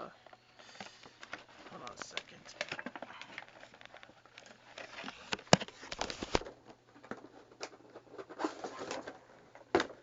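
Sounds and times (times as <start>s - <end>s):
packaging clicks taps and rustles: 0.3s - 10.0s.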